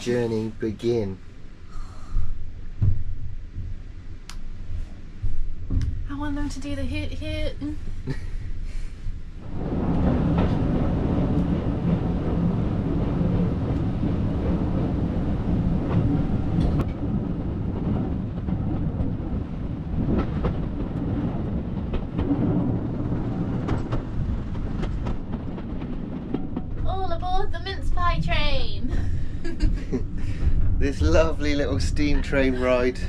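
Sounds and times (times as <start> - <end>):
train carriage rumbling on rails: 0.0 - 1.6, 2.4 - 33.0.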